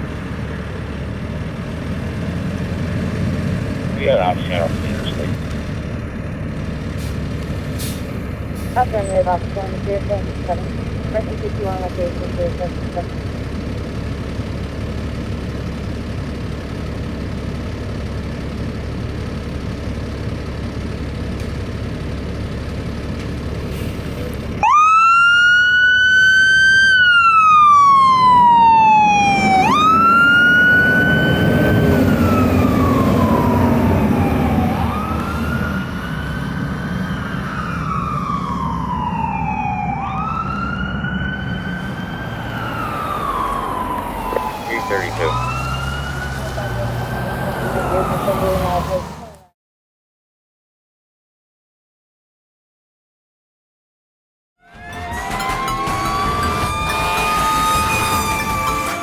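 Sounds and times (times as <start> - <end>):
diesel engine rumbling: 0.0 - 49.5, 54.6 - 59.0
fire engine siren wailing: 2.1 - 49.5, 54.6 - 59.0.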